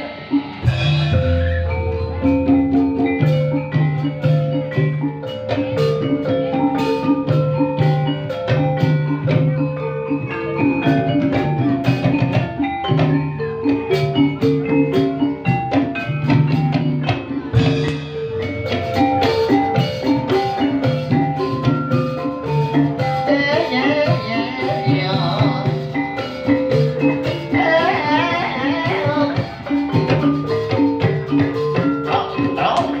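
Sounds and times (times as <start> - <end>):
drums: 0.0 - 33.0
mallet percussion runs: 0.0 - 33.0.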